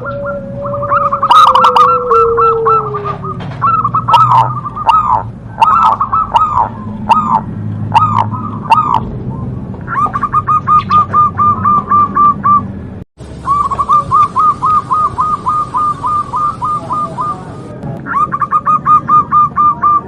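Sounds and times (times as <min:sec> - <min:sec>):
dove cooing: 0:00.0 - 0:12.7, 0:13.4 - 0:20.0
high bird chirps: 0:00.0 - 0:12.7, 0:13.3 - 0:20.0.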